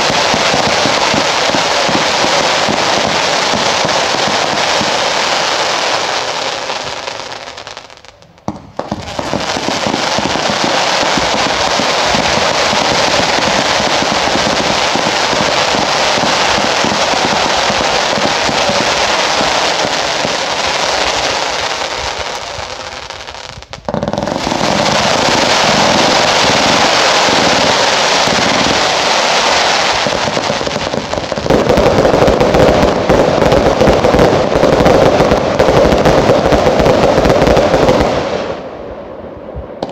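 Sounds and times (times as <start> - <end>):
fireworks rapid shots and bangs: 0.0 - 38.7, 39.4 - 39.9.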